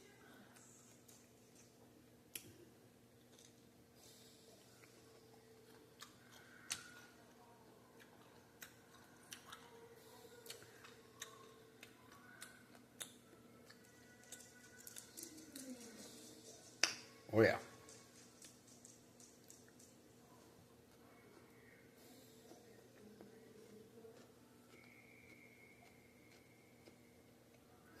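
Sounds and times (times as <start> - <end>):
chewing crispy fried food: 3.1 - 28.0.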